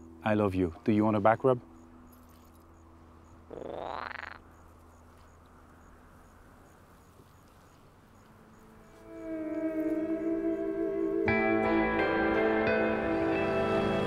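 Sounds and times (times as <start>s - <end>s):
high insect chirp: 0.0s - 11.8s.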